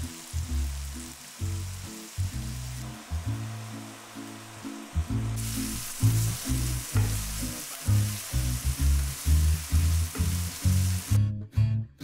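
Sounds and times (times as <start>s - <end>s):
onions sizzling in hot oil: 0.0s - 11.2s.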